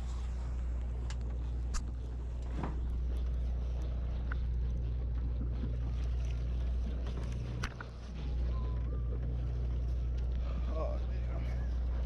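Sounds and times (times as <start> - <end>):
boat machinery humming: 0.0 - 12.0.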